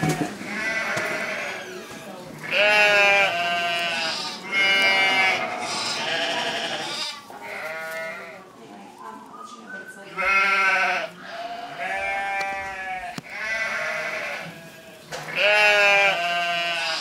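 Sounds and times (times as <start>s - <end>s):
sheep bleating: 0.0s - 1.8s, 2.4s - 8.4s, 10.1s - 17.0s.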